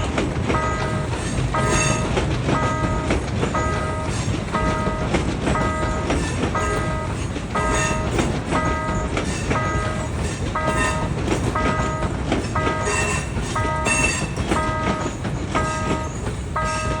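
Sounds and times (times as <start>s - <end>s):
level crossing warning bell: 0.0s - 17.0s
train wheels rumbling over rail joints: 0.0s - 17.0s.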